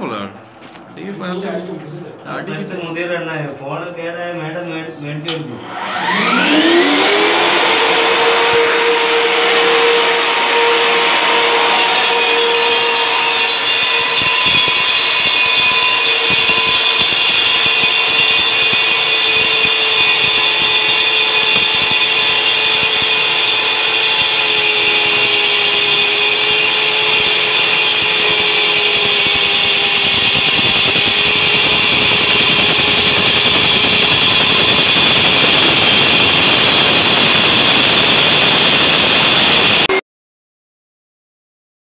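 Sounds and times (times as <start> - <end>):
core drill cutting concrete: 5.6 - 40.0.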